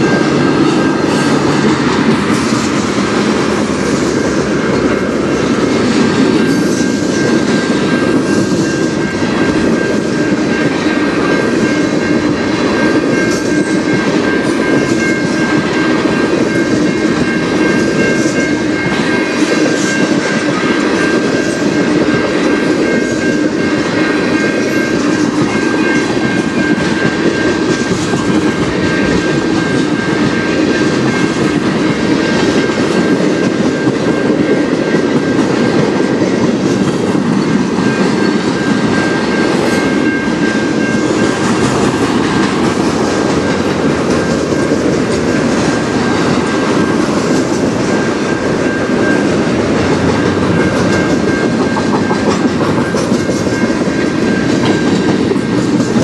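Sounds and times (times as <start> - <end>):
crossing warning bell: 0.0 - 56.0
freight train wheels rumbling: 0.0 - 56.0.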